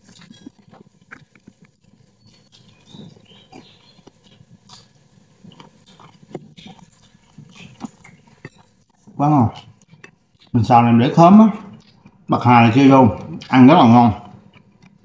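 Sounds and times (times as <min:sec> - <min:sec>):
close chewing with wet smacks: 0:00.0 - 0:10.7, 0:11.5 - 0:12.4, 0:13.1 - 0:13.6, 0:14.2 - 0:15.0.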